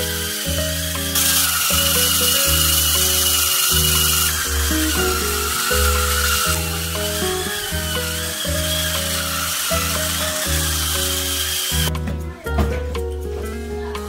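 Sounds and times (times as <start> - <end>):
electric scrub brush whining: 0.0 - 11.9
background music with steady beat: 0.0 - 14.0.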